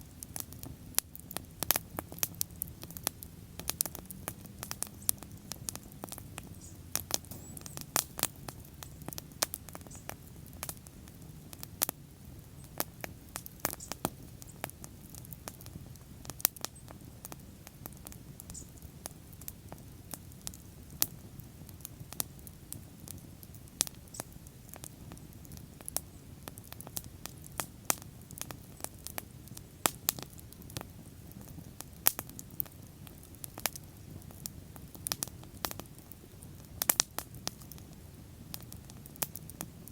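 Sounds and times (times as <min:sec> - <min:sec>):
wood crackling and popping: 0:00.0 - 0:39.9
low rush of flames: 0:00.1 - 0:39.9.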